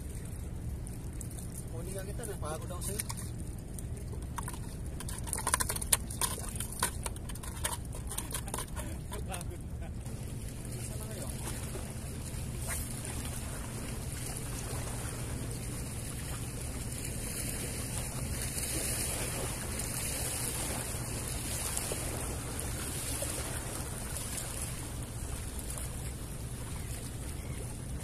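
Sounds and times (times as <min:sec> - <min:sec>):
steady wind: 0:00.0 - 0:28.0
small waves lapping on rocks: 0:00.1 - 0:28.0.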